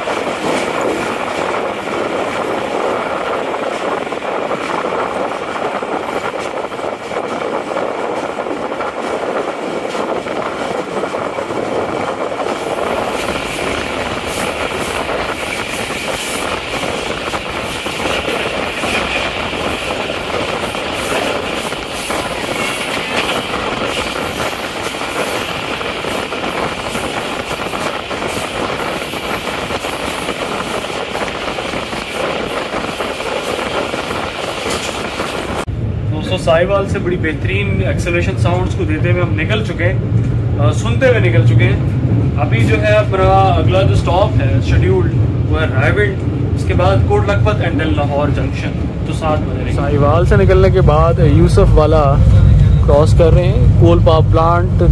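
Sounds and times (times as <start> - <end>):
diesel locomotive working hard: 0.0 - 54.9
train running noise: 0.0 - 54.9.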